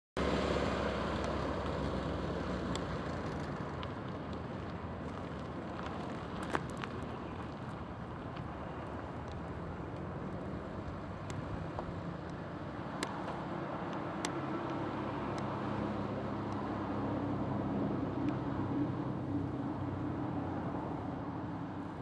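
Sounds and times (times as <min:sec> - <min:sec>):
car road and engine noise: 0:00.2 - 0:22.0.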